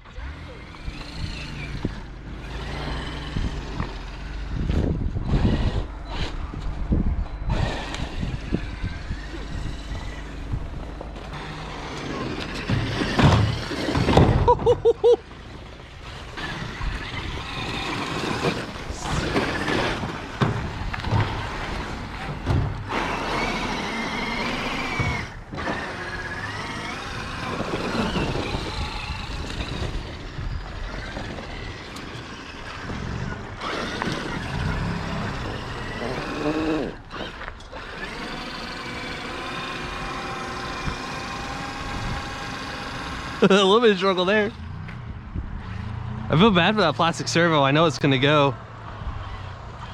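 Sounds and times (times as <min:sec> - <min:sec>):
electric motor whine: 0:00.0 - 0:14.4, 0:15.5 - 0:45.0
tyres churning snow: 0:00.0 - 0:44.9, 0:45.6 - 0:49.9.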